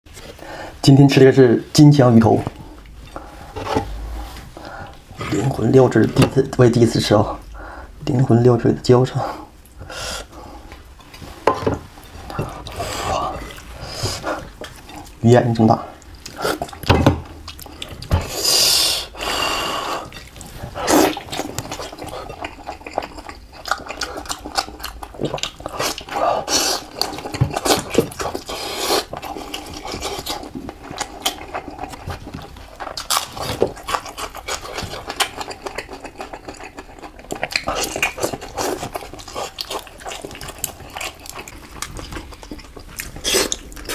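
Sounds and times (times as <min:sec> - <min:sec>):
person chewing and slurping: 0:02.5 - 0:06.4, 0:09.4 - 0:15.2, 0:15.8 - 0:43.9.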